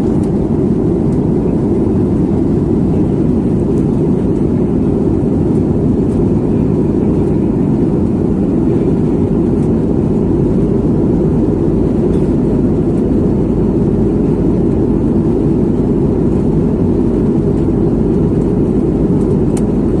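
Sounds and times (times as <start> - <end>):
jet airliner cabin rumble: 0.0 - 20.0.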